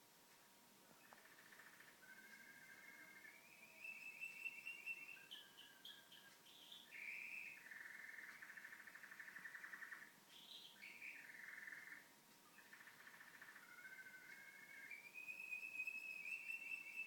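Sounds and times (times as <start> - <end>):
canary singing: 1.0 - 17.0.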